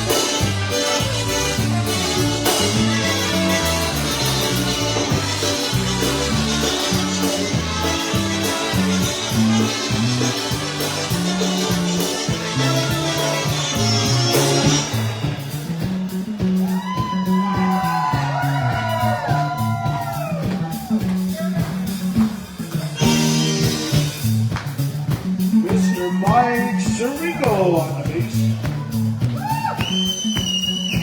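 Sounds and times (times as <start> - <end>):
polka band playing: 0.0 - 31.0.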